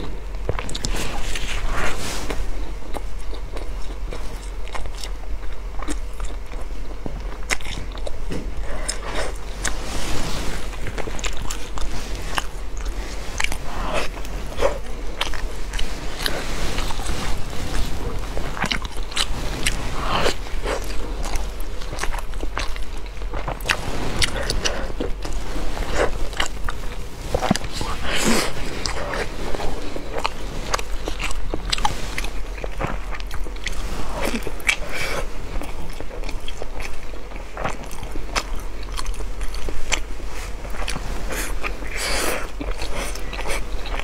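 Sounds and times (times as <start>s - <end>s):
biting and chewing sticky rice: 0.0s - 44.0s.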